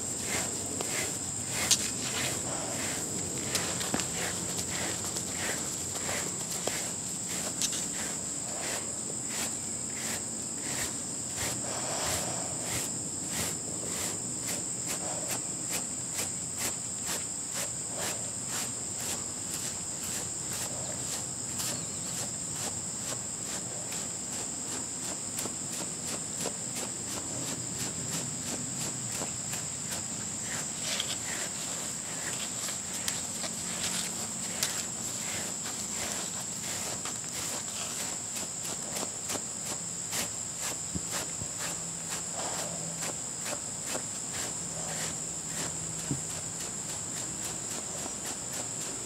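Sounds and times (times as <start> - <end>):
brush rubbing dog's coat: 0.0 - 49.0
insect chirring: 0.0 - 49.0.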